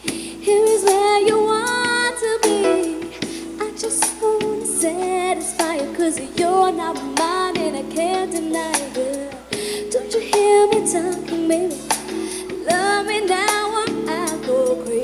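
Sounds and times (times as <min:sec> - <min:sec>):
background hiss: 0:00.0 - 0:15.0
pop song with female vocal: 0:00.0 - 0:15.0.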